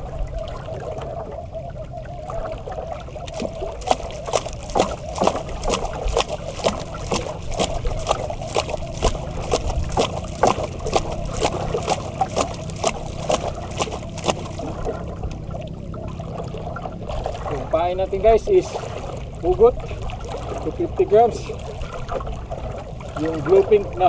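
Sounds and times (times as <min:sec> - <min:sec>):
water slapping against boat hull: 0:02.2 - 0:24.0.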